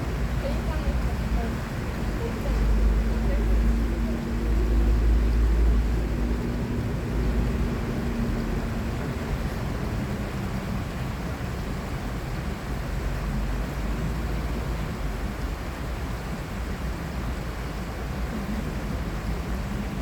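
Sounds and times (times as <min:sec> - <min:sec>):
low engine hum: 0:00.0 - 0:20.0
traffic rumble: 0:00.0 - 0:20.0.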